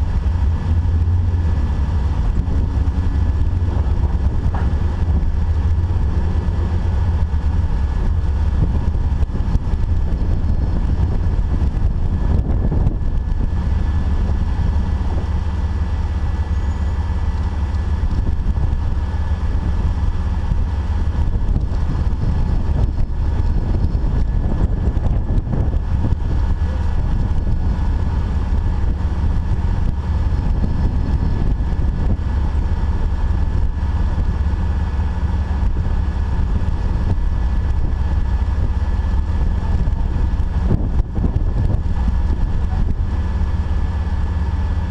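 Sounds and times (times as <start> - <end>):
vehicle engine rumble: 0.0 - 44.9.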